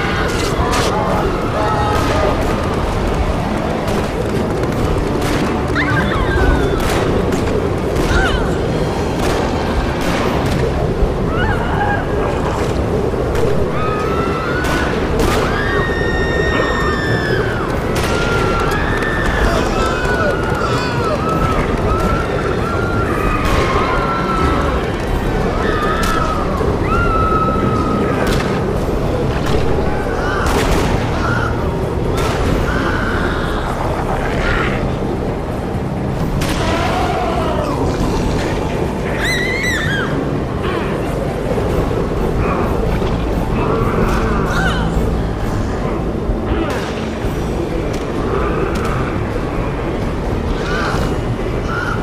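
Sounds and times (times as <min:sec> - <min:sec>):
drone propellers whining: 0:00.0 - 0:52.0
gliding cries: 0:00.0 - 0:52.0
steady rumbling noise: 0:00.0 - 0:52.0.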